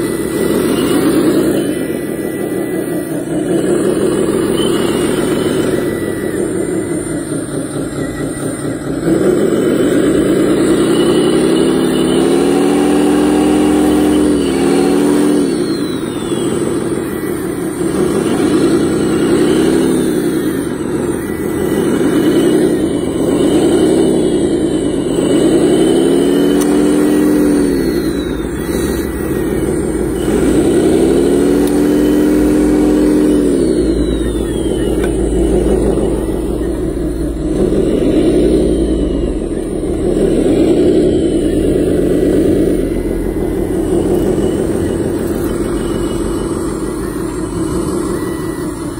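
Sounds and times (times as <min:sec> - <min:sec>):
toy loader motors whirring: 0:00.0 - 0:48.9.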